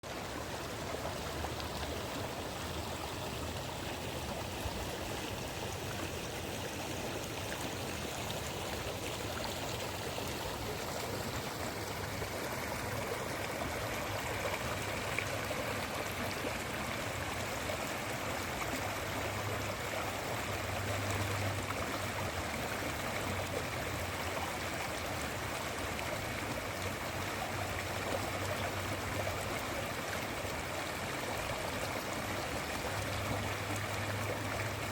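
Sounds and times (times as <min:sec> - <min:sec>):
river water flowing over stones: 0:00.0 - 0:34.9.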